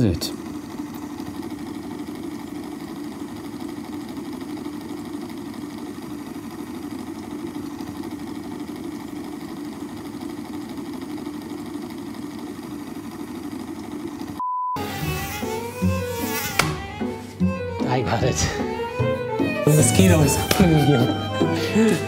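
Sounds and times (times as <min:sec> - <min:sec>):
pump motor humming: 0:00.0 - 0:22.0.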